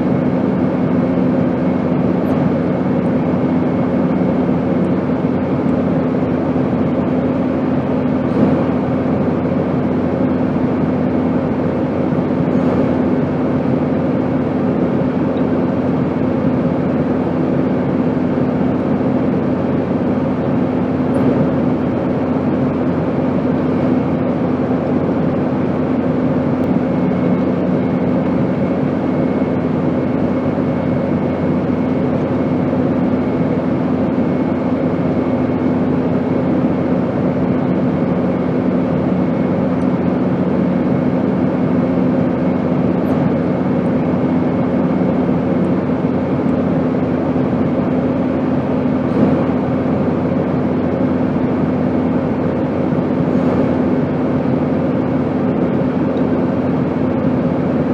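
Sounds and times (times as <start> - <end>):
airplane engine drone: 0.0 - 57.9.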